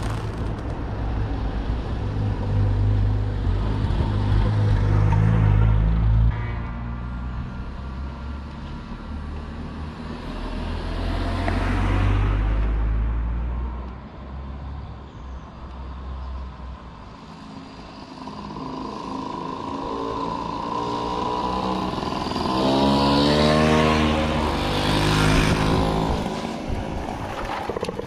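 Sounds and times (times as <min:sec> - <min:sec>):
vehicle engine accelerating: 0:00.0 - 0:13.2, 0:18.0 - 0:28.0.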